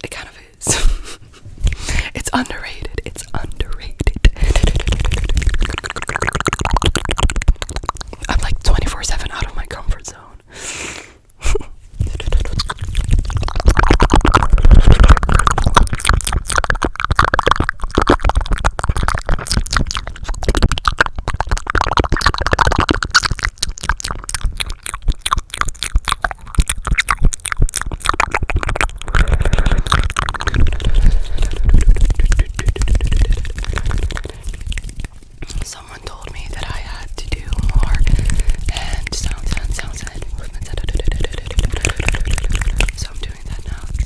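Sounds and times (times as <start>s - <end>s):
rapid mouth clicks and pops: 0.0s - 0.9s, 1.6s - 10.3s, 12.0s - 44.0s.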